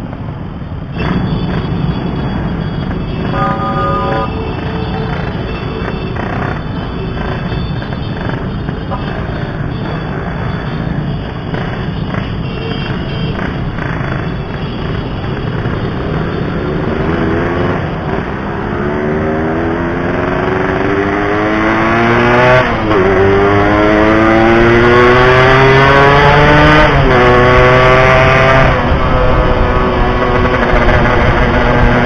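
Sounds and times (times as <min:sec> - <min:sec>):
motorcycle engine accelerating: 0:01.0 - 0:32.0.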